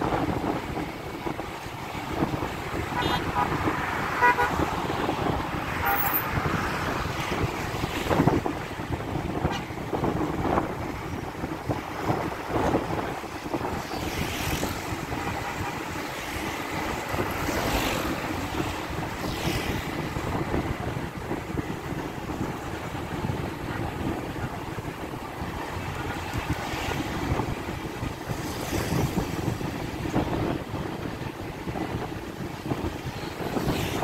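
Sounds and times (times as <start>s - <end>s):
vehicle engine and road noise: 0.0s - 34.0s
wind buffeting microphone: 0.0s - 34.0s.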